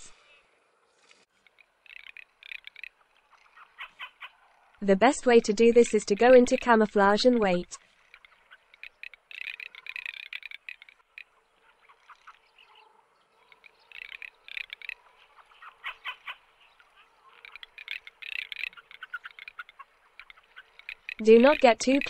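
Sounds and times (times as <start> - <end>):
fast high rattling animal calls: 1.3 - 22.0.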